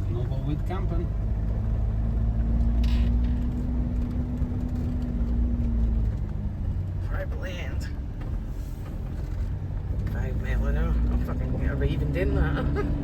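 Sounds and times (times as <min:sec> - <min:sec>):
engine rumbling in low gear: 0:00.0 - 0:13.0.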